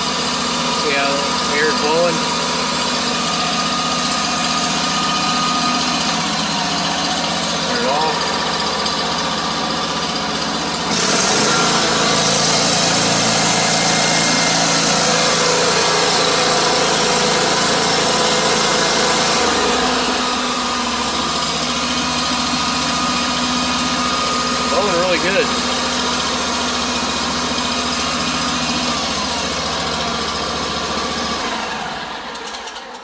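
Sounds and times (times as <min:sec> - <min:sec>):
mower engine idling: 0:00.0 - 0:33.0.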